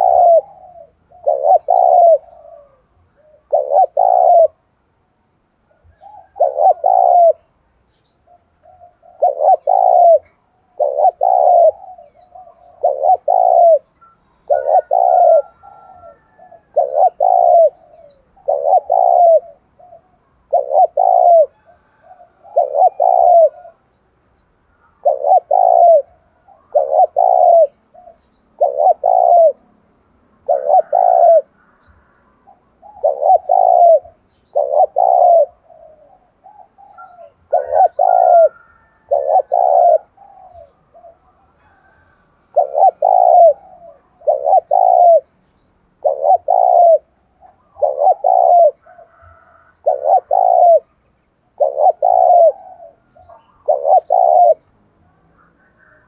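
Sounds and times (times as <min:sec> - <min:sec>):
dove cooing: 0:00.0 - 0:04.8, 0:05.7 - 0:24.0, 0:24.7 - 0:56.0.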